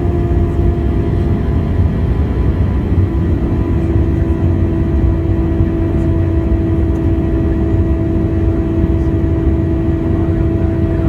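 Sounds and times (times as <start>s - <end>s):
airliner engine rumble: 0.0s - 11.0s
constant droning hum: 0.0s - 11.0s.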